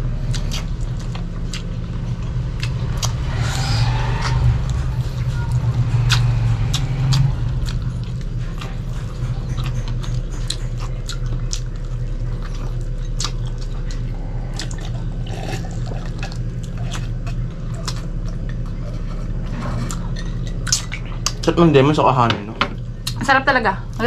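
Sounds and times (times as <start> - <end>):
low hum: 0.0 - 24.0
wet chewing and lip-smacking: 0.1 - 21.5.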